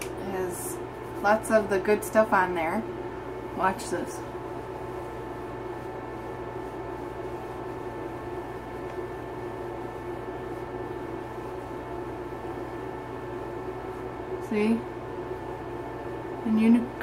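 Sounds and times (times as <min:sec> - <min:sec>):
steady tonal hum: 0:00.0 - 0:17.0.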